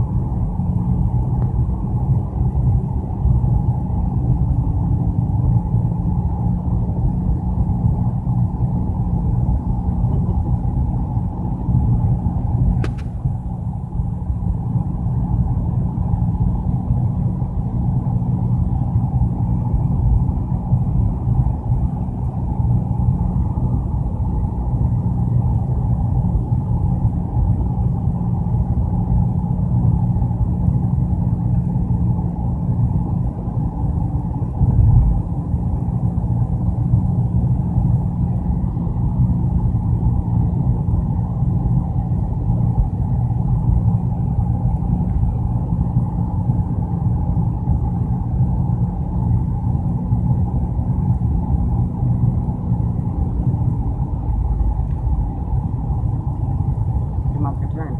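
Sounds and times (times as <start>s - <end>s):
car cabin rumble: 0.0s - 57.9s.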